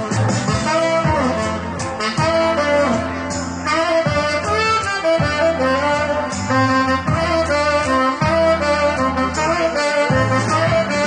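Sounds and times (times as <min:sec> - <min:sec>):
backing track with bass and beat: 0:00.0 - 0:11.0
tenor saxophone melody: 0:00.0 - 0:11.0.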